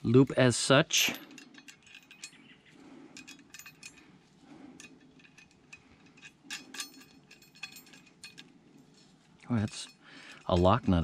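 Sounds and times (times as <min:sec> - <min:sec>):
steel chain and fittings clinking: 0:00.0 - 0:11.0.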